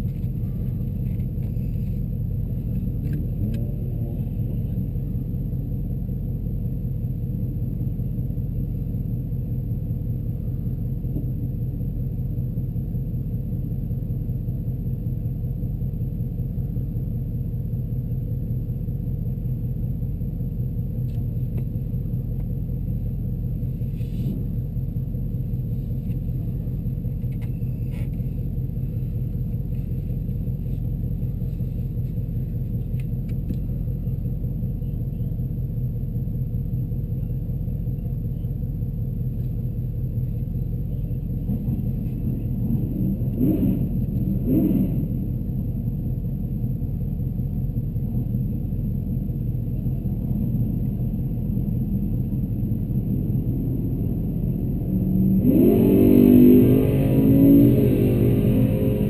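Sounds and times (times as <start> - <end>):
car engine idling: 0.0 - 55.5.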